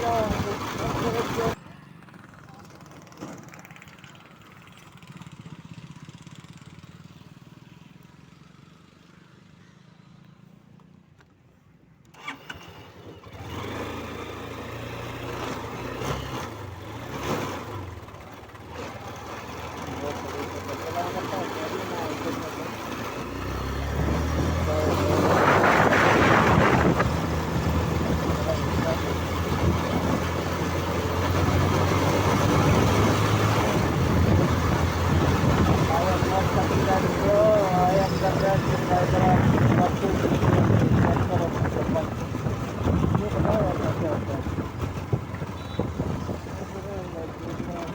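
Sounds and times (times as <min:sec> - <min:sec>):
motorcycle engine running: 0:00.0 - 0:10.2, 0:12.2 - 0:47.9
wind and road noise: 0:00.0 - 0:47.9.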